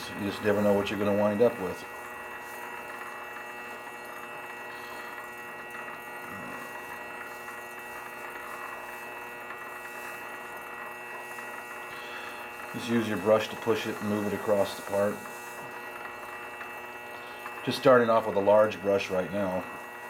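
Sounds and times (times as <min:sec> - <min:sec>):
lathe humming: 0:00.0 - 0:20.0.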